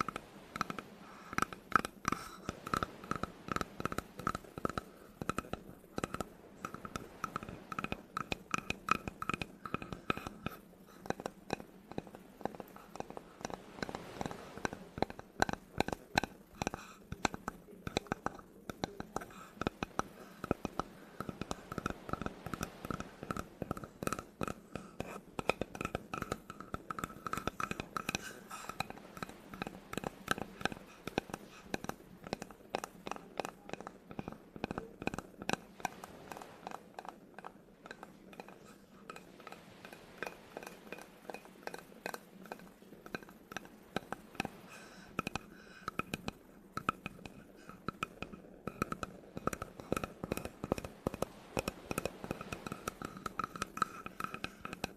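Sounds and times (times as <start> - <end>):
fingers tapping on wood: 0.0 - 44.6, 45.2 - 54.9.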